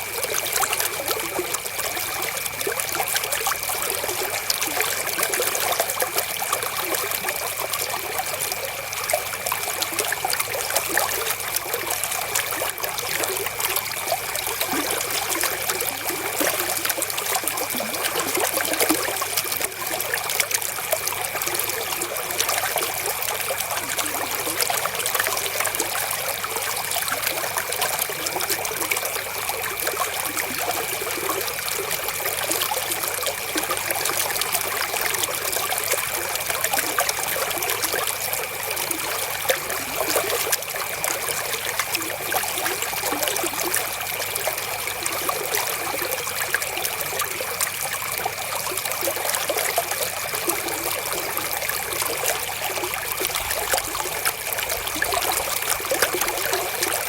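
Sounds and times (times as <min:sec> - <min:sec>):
river water flowing and splashing: 0:00.0 - 0:57.0.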